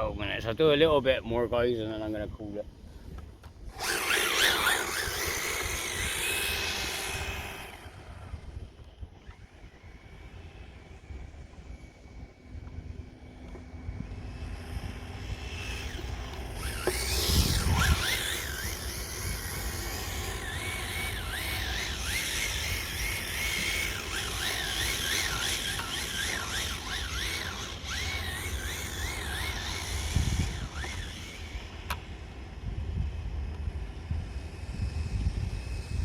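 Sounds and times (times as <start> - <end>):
radio-controlled car motor whine: 3.1 - 36.0.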